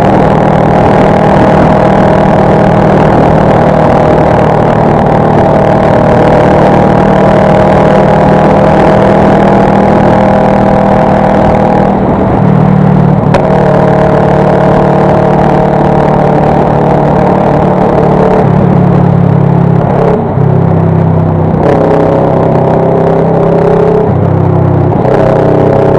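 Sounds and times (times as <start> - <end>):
motorcycle engine droning: 0.0 - 25.9
road noise: 0.0 - 25.9.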